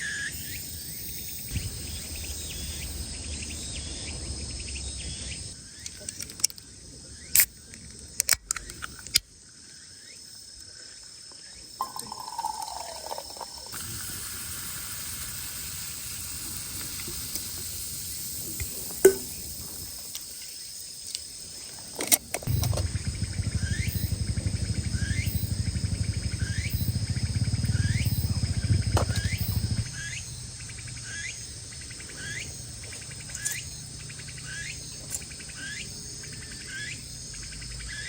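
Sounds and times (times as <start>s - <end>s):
crickets and insects trilling: 0.0s - 38.0s.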